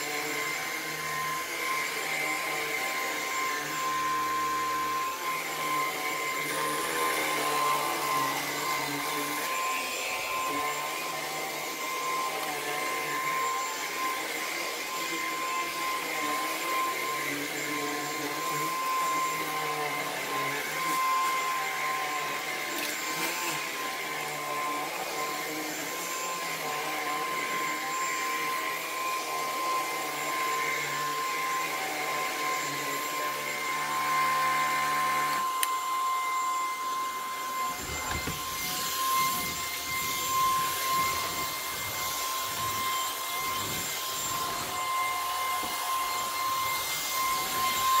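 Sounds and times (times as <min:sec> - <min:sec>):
vacuum cleaner motor whine: 0:00.0 - 0:48.0.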